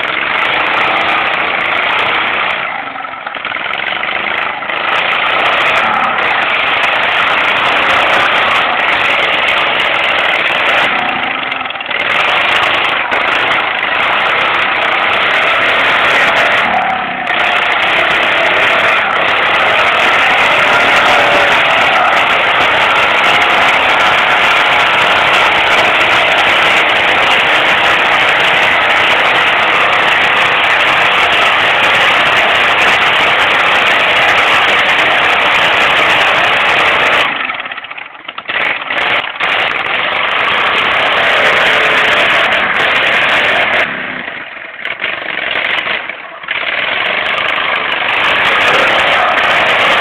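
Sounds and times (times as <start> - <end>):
lawn mower engines running hard: 0.0 - 50.0.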